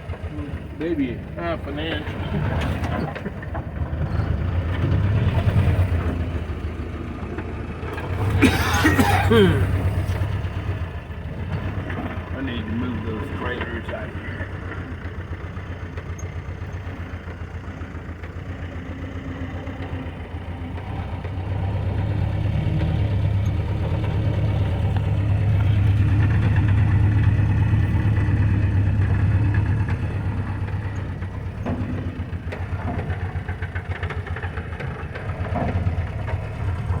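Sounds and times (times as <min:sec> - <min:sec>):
engine running at low revs: 0:00.0 - 0:37.0.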